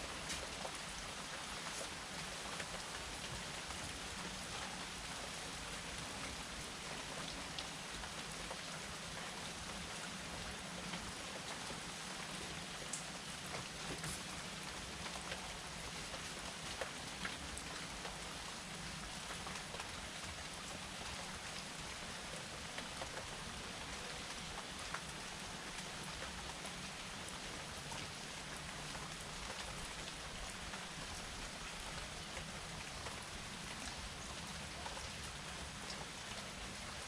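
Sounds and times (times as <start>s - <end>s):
raindrops ticking on a surface: 0.0s - 37.0s
steady rain falling: 0.0s - 37.0s.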